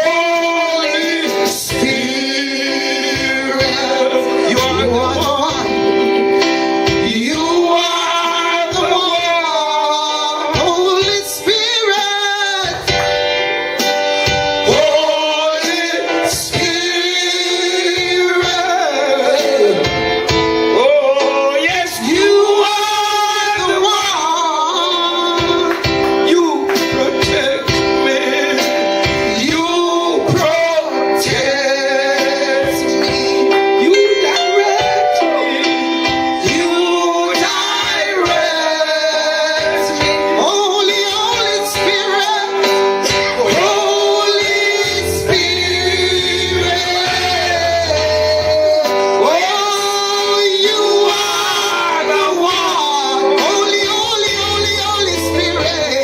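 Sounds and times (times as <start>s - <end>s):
gospel singing: 0.0s - 56.0s
sustained instrumental chords: 0.0s - 56.0s.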